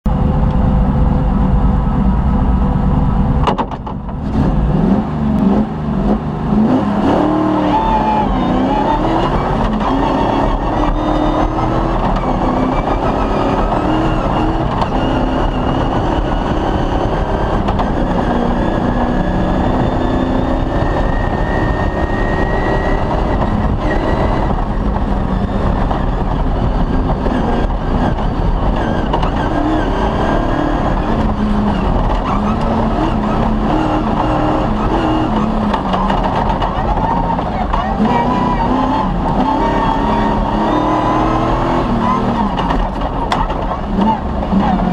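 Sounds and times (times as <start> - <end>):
rally car engine revving: 0.1 - 44.9.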